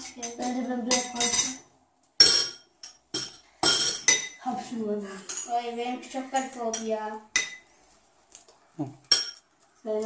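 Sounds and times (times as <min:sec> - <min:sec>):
metal spoons clinking on bowls: 0:00.0 - 0:07.7, 0:09.0 - 0:09.6.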